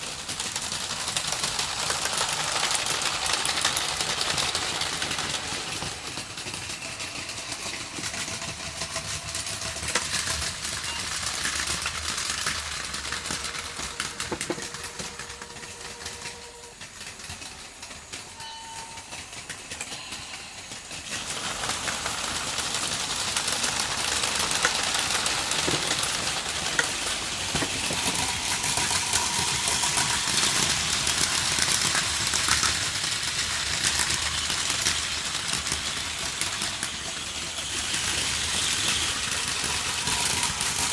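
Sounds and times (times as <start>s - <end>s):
toy train wheels rattling: 0.0s - 40.9s
whir of small motors: 0.0s - 40.9s.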